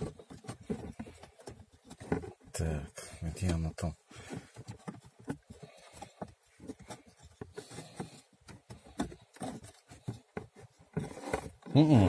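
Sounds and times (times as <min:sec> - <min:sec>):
filter rubbing against plastic: 0:00.0 - 0:12.0.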